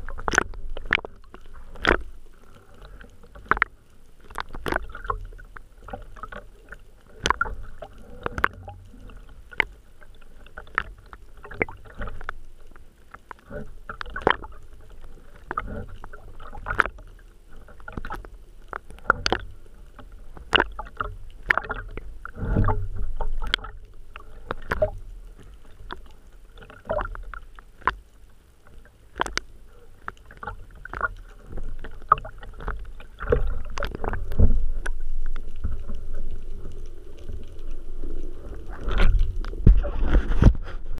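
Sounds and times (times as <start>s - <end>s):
sea water sloshing and gurgling: 0.0s - 40.9s.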